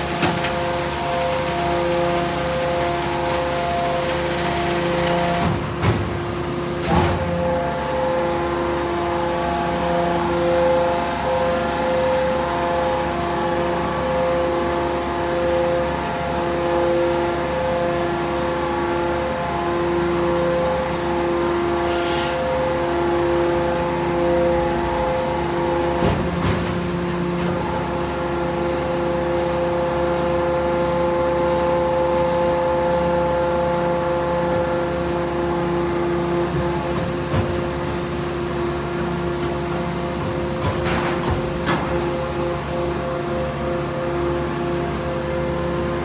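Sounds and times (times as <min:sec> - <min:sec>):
hydraulic power unit humming: 0:00.0 - 0:46.0.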